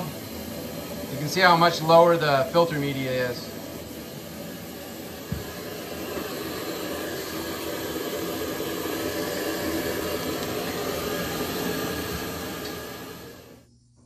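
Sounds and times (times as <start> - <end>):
water rushing through filter tank: 0.0 - 13.6.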